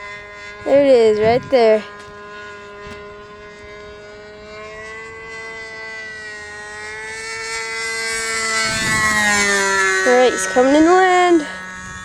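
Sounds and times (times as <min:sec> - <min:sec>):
model airplane engine whining: 0:00.0 - 0:12.0.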